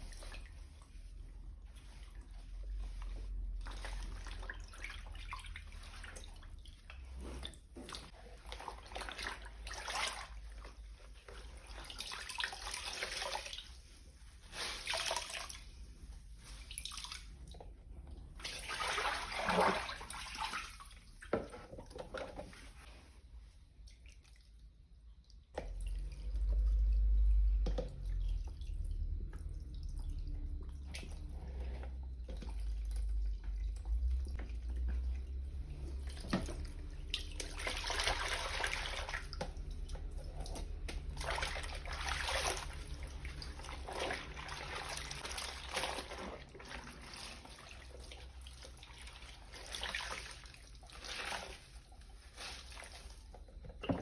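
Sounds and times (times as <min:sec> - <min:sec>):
water sloshing in a tub: 0:00.0 - 0:54.0.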